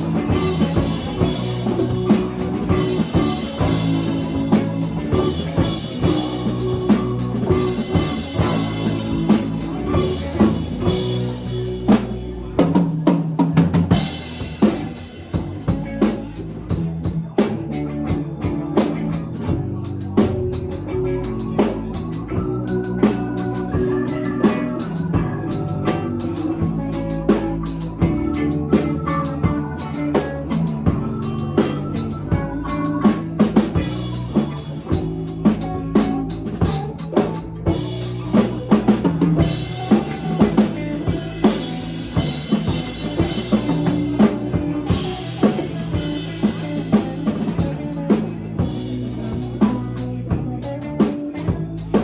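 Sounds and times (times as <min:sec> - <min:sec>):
drum kit beat: 0:00.0 - 0:52.0
live rock band playing: 0:00.0 - 0:52.0.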